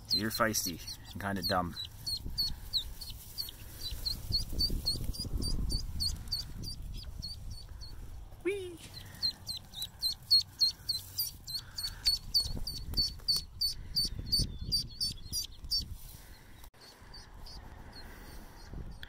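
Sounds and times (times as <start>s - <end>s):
duckling peeping: 0.0s - 8.0s, 8.8s - 19.0s.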